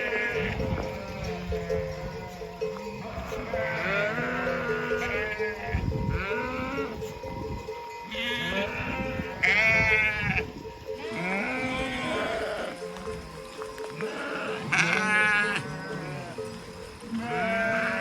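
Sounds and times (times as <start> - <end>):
sheep bleating: 0.0 - 7.2, 8.0 - 10.4, 11.0 - 18.0
background music: 0.0 - 18.0.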